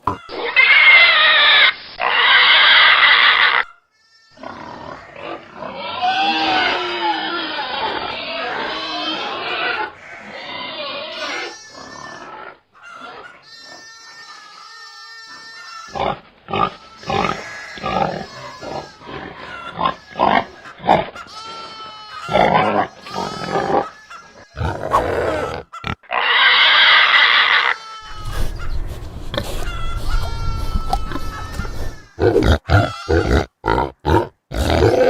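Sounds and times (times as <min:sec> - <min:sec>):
pig squealing harshly: 0:00.0 - 0:35.0
pigs grunting: 0:04.4 - 0:13.7, 0:15.9 - 0:35.0.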